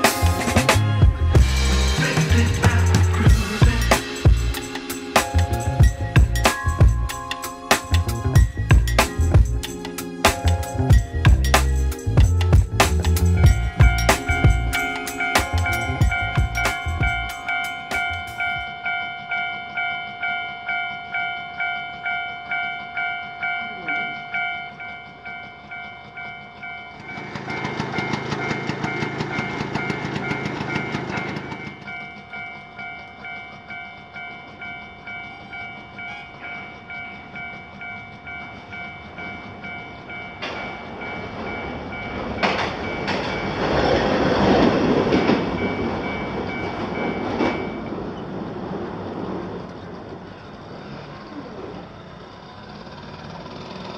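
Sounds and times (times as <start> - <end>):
level-crossing alarm bell: 0.0 - 48.2
streetcar wheels rolling on rails: 0.0 - 53.9.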